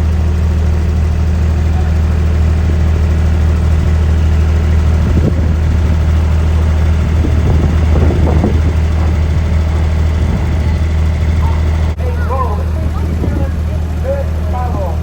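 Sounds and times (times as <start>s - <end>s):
loud low engine drone: 0.0s - 15.0s
faint voices: 1.4s - 15.0s.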